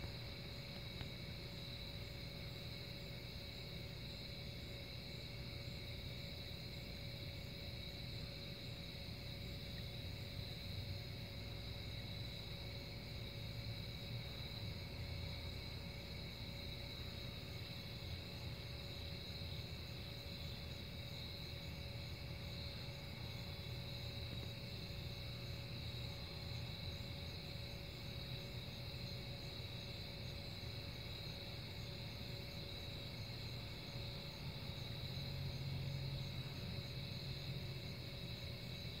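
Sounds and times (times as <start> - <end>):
night insects chirring: 0.0 - 39.0.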